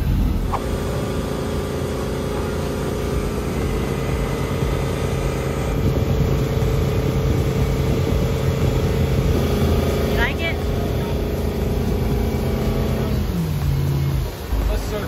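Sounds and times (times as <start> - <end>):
boat engine running: 0.0 - 15.0
rushing water of wake: 0.0 - 15.0.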